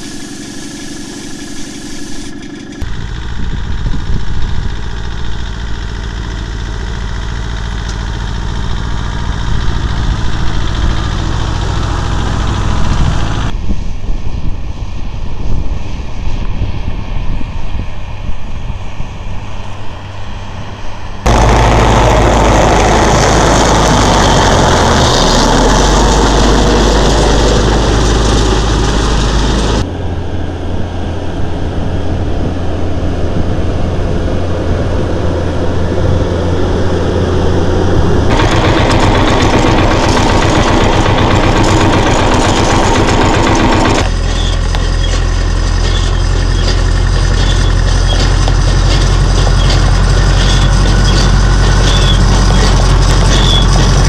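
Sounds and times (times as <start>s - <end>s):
tractor diesel engine running: 0.0s - 13.8s, 18.7s - 54.0s.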